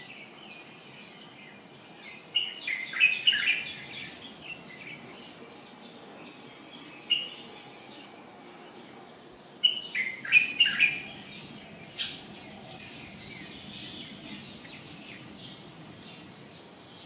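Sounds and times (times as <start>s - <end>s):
low background noise: 0.0s - 17.0s
small birds chirping: 0.0s - 17.0s.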